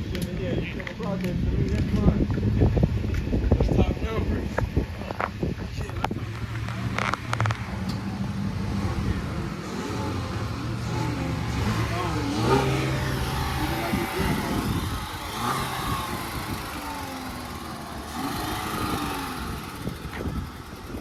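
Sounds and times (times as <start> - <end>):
car engine revving: 1.2 - 21.0.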